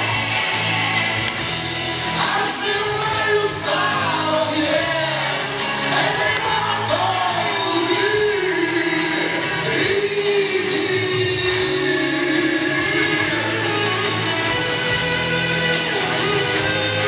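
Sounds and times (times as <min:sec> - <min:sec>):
backing track music: 0:00.0 - 0:17.0.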